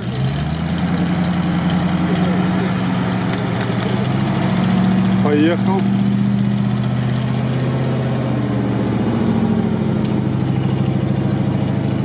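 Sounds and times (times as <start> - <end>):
truck engine at low revs: 0.0 - 12.0.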